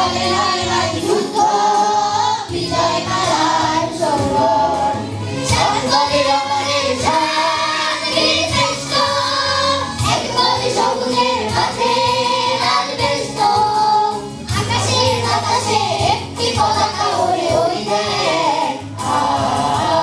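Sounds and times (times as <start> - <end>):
children's choir singing: 0.0 - 20.0
musical accompaniment: 0.0 - 20.0.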